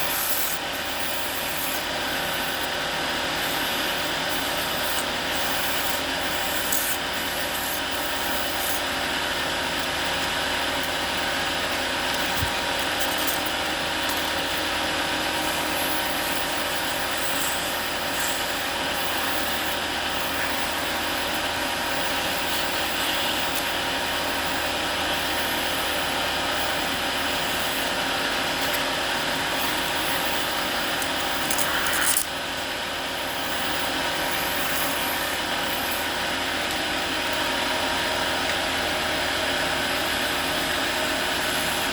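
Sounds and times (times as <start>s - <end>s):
tool scraping spinning wood: 0.0s - 37.5s
wood lathe running: 0.0s - 41.9s.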